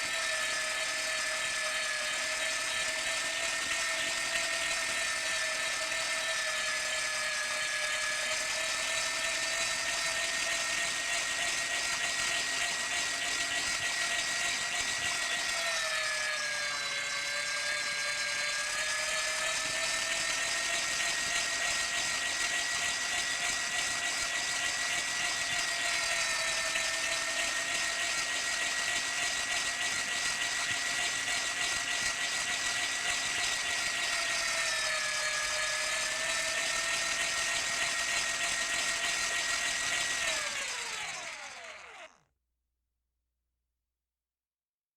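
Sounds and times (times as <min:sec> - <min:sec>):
meat grinder motor whining: 0:00.0 - 0:42.2.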